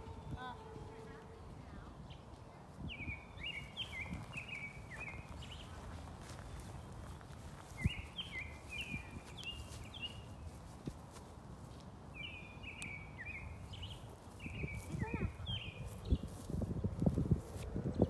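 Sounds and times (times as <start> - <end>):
songbird chirping: 0.0 - 16.7.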